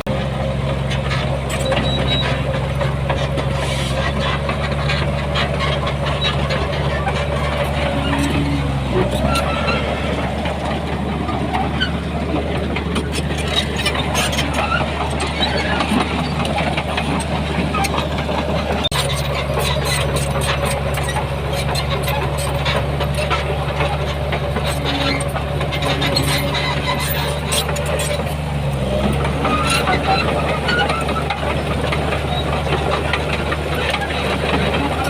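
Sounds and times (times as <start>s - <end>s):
heavy diesel machinery running: 0.0s - 35.0s
clicks and clanks: 0.7s - 35.0s.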